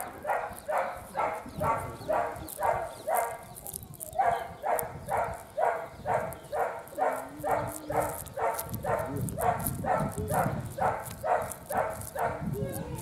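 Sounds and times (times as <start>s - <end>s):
dog barking: 0.0s - 13.0s.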